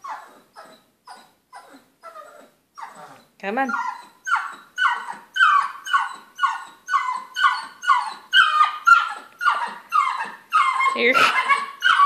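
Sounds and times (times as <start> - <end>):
puppy whining: 0.0 - 12.0.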